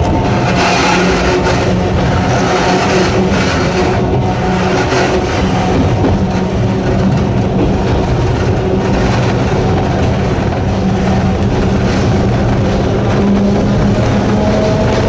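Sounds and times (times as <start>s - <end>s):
electric train motor hum: 0.0s - 15.0s
wheels rumbling on rail: 0.0s - 15.0s.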